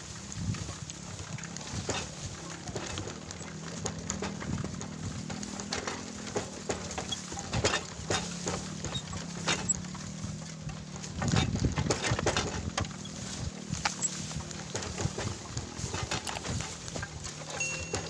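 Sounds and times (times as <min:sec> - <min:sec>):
footsteps on dirt path: 0:00.0 - 0:18.0
grass brushing: 0:00.0 - 0:18.0.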